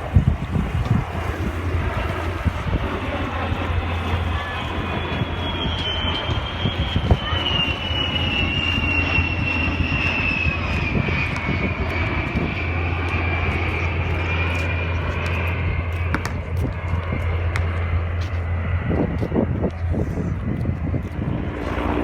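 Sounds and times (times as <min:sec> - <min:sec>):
airplane engine flying past: 0:00.0 - 0:22.0.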